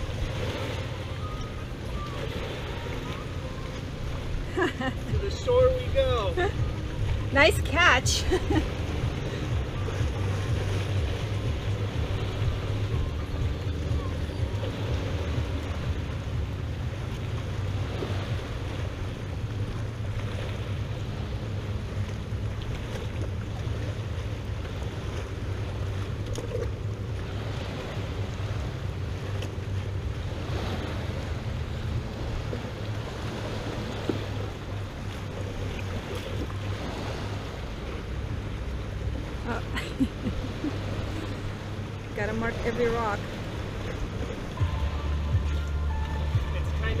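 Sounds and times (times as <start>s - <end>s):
waves lapping against boat: 0.0s - 47.0s
wind rumble on microphone: 0.0s - 47.0s.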